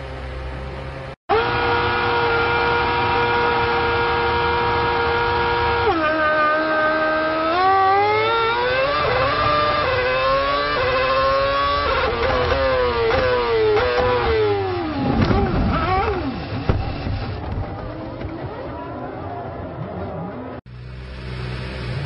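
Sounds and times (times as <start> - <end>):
racing car engine revving: 1.0 - 18.8.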